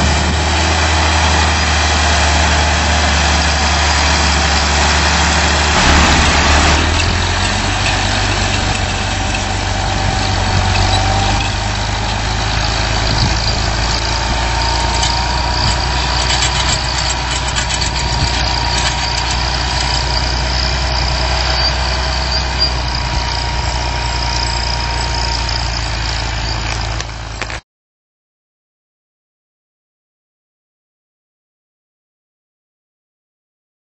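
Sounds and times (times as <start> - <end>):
tractor diesel engine under load: 0.0 - 27.6.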